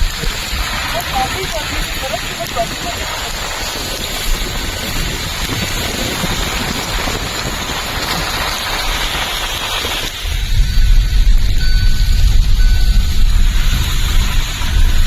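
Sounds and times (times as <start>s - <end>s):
wind and driving snow rushing: 0.0s - 15.0s
wind buffeting microphone: 0.0s - 15.0s.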